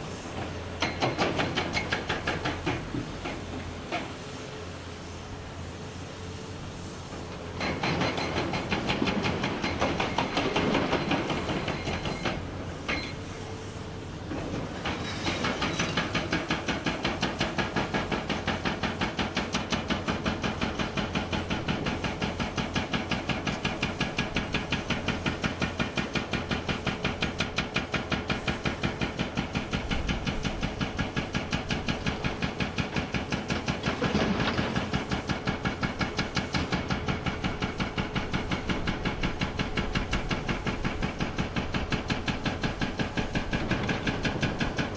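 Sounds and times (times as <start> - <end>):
hydraulic hammer pounding rock: 0.3 - 4.1, 7.3 - 13.2, 14.3 - 44.9.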